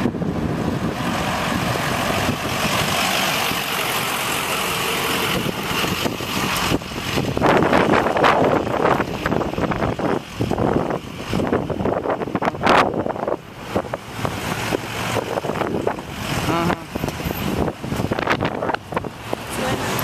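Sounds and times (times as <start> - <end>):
road and traffic noise: 0.0 - 20.0.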